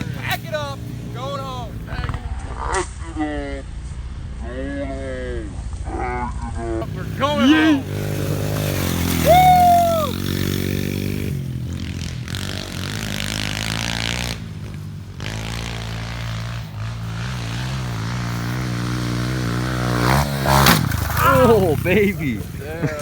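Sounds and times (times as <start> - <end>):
small motorbike engine running: 0.0 - 2.4, 6.8 - 23.0.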